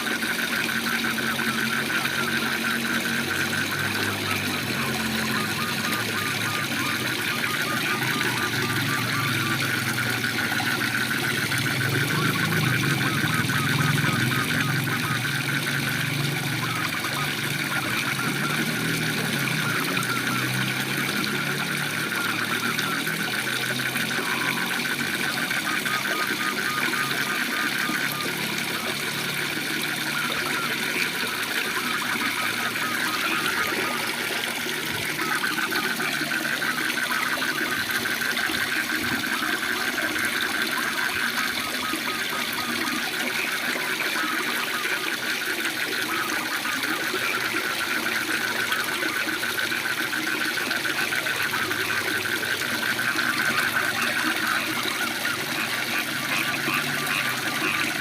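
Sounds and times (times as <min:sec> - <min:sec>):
frogs trilling: 0:00.0 - 0:58.0
higher frog trill: 0:00.0 - 0:58.0.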